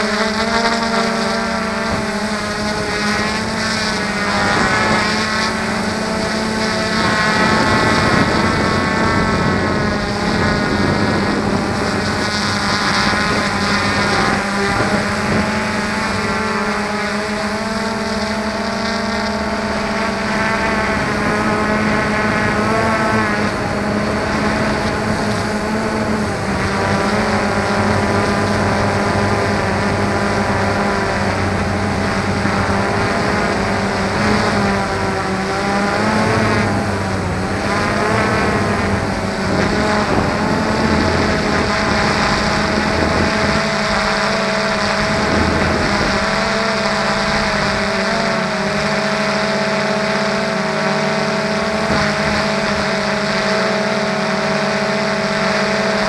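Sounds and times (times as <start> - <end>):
drone propellers buzzing: 0.0 - 56.0.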